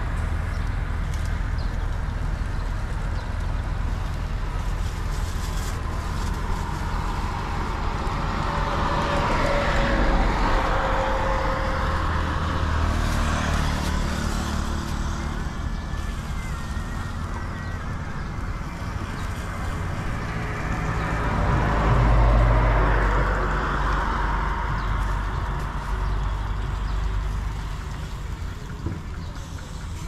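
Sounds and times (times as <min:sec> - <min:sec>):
low traffic rumble: 0:00.0 - 0:30.0
vehicle passing: 0:00.0 - 0:30.0.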